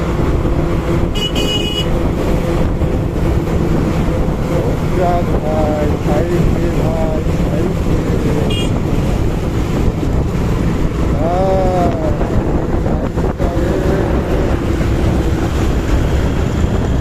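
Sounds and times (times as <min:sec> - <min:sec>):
motorcycle engine: 0:00.0 - 0:17.0
wind rushing over microphone: 0:00.0 - 0:17.0.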